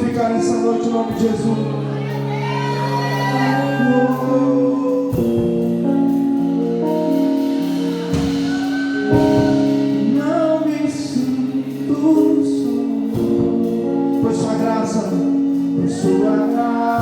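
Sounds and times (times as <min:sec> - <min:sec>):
deep bass notes: 0:00.0 - 0:17.0
worship band sustained chords: 0:00.0 - 0:17.0.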